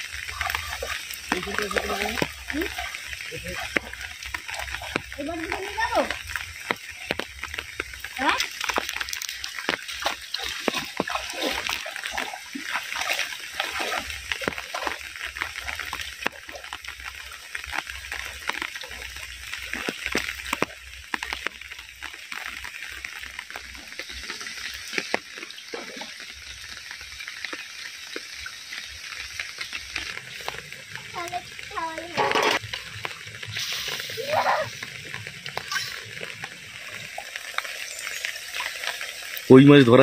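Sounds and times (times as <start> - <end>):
heavy rain falling: 0.0 - 40.0
water splashing and sloshing: 0.0 - 40.0.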